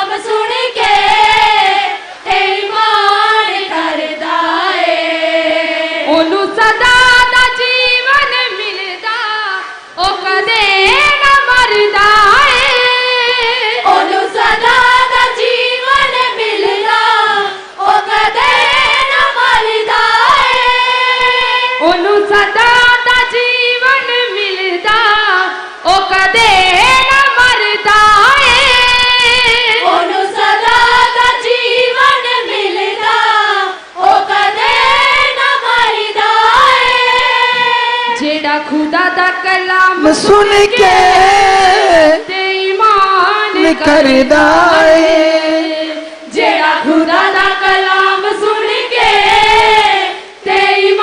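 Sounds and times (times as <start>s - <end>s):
woman singing into a microphone: 0.0s - 51.0s.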